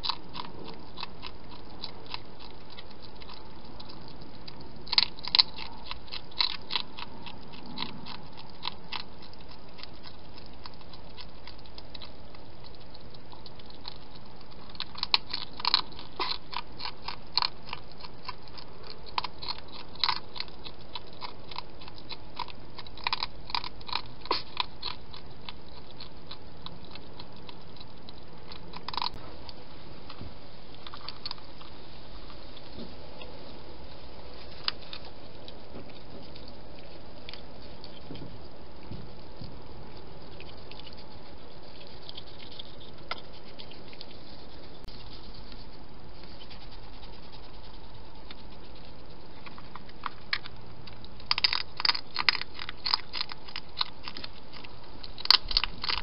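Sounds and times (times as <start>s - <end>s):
hedgehog crunching dry food: 0.0s - 56.0s.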